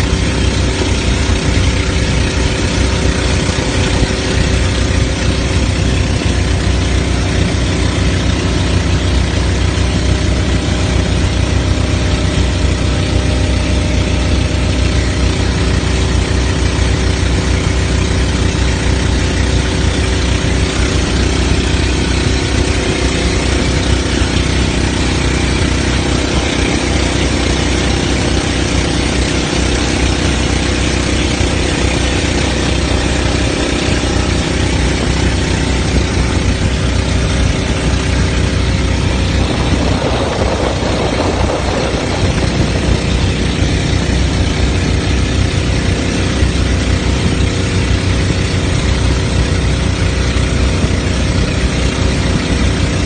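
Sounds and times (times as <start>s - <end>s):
boat engine droning: 0.0s - 53.0s
rushing water: 0.0s - 53.0s
wind: 0.0s - 53.0s.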